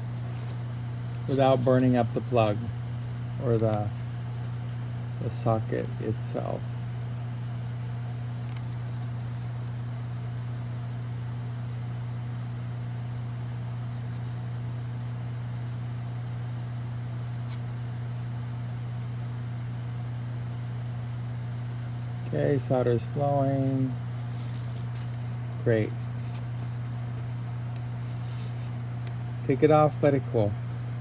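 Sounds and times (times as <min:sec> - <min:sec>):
low hum with faint hiss: 0:00.0 - 0:31.0.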